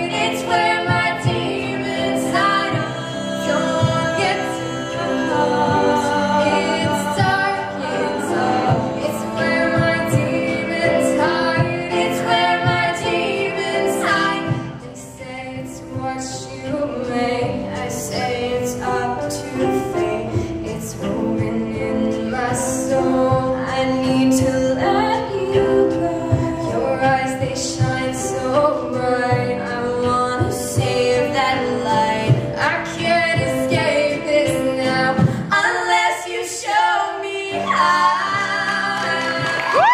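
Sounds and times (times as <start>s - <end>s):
piano accompaniment: 0.0s - 39.9s
women singing: 0.0s - 39.9s.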